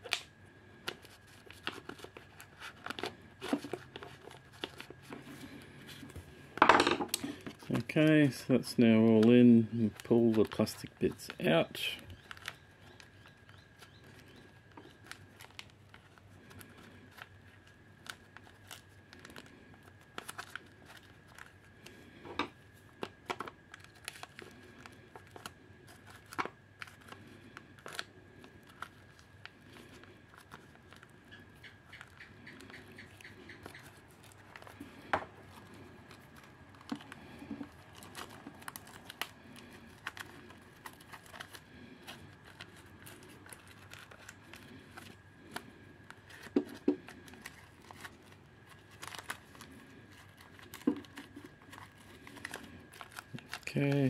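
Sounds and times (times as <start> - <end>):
plastic film crinkling and tearing: 0.0 - 6.2, 7.2 - 54.0.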